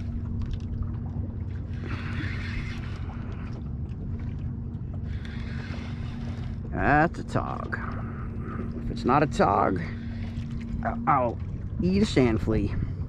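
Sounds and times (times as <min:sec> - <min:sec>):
steady low hum: 0:00.0 - 0:13.0
water around boat: 0:00.0 - 0:13.0.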